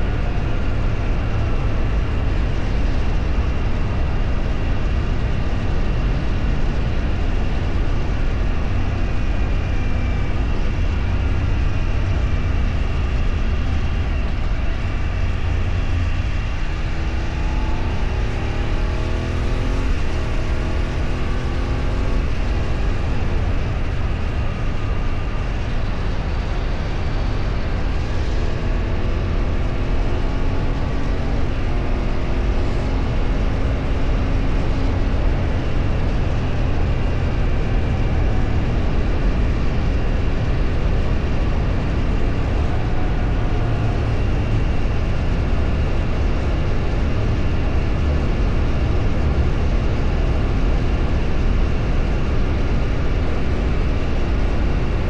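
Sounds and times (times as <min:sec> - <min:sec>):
road rumble: 0:00.0 - 0:55.0
vehicle engine accelerating: 0:00.0 - 0:55.0.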